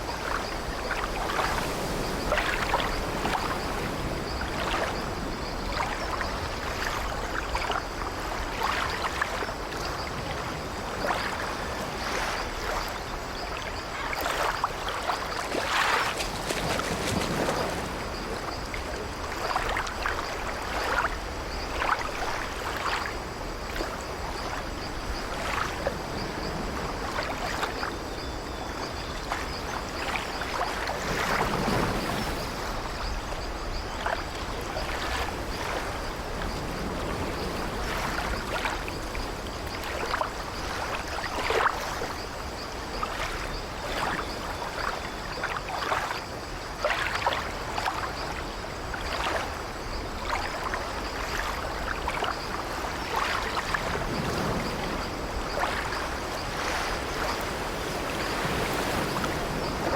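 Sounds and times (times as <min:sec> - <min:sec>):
waves washing against ship: 0:00.0 - 0:28.0, 0:28.7 - 0:59.9.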